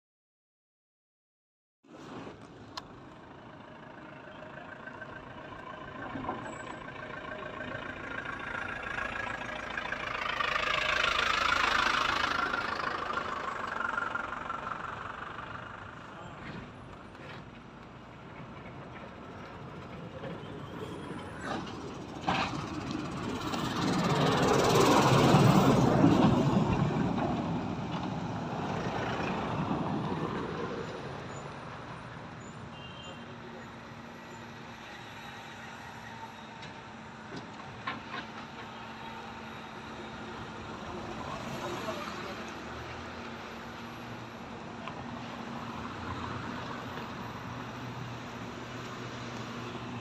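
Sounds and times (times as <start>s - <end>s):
truck driving past: 2.9s - 50.0s.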